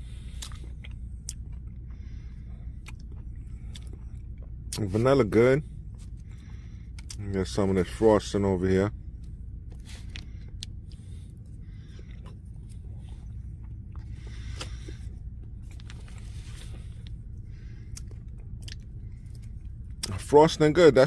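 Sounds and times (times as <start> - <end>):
steady low hum: 0.0 - 21.0
person chewing: 0.1 - 4.8, 5.9 - 7.3, 9.2 - 20.2.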